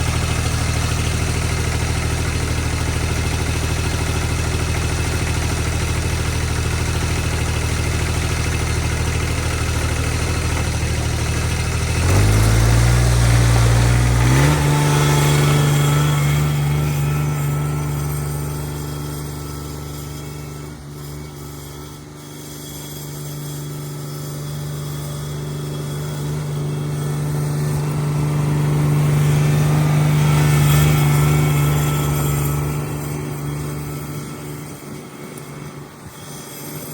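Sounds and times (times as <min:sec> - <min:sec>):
garden tractor engine running: 0:00.0 - 0:36.9.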